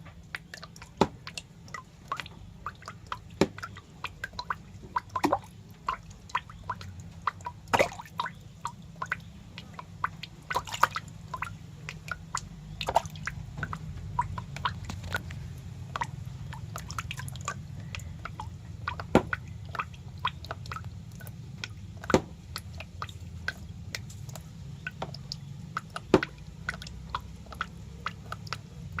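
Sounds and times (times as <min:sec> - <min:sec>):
low steady hum: 0:00.0 - 0:29.0
wet clicks and drips: 0:00.0 - 0:29.0.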